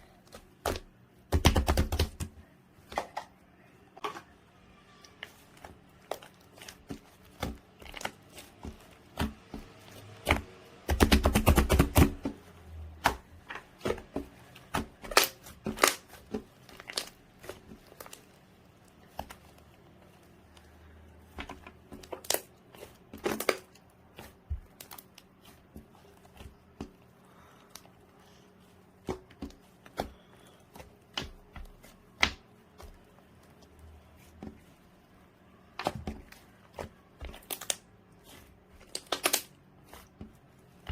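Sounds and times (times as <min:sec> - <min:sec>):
slime crackling: 0:04.7 - 0:40.9.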